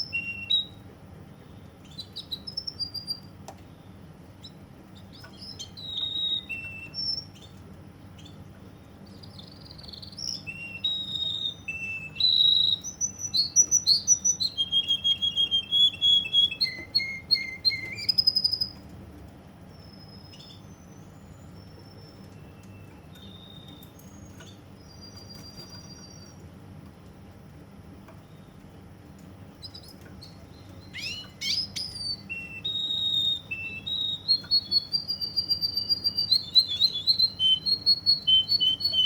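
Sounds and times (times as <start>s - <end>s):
canary singing trills: 0.0s - 18.8s, 19.6s - 26.5s, 29.4s - 39.0s.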